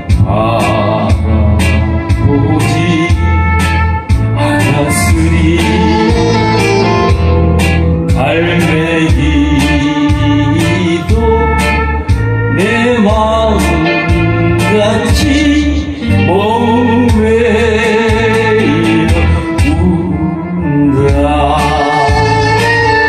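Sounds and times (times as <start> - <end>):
band with steady bass beat: 0.0 - 23.0
person singing with vibrato: 0.0 - 23.0.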